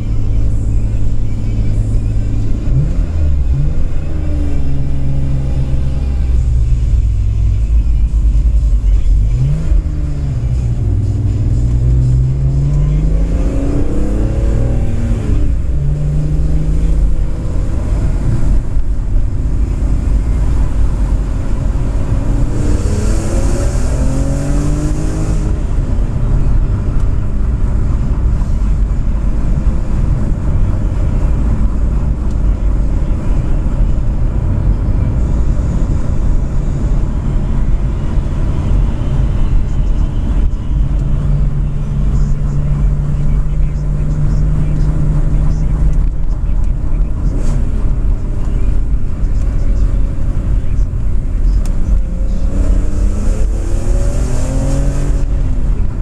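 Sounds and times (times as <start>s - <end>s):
car engine accelerating: 0.0s - 56.0s
road and tyre rumble: 0.0s - 56.0s.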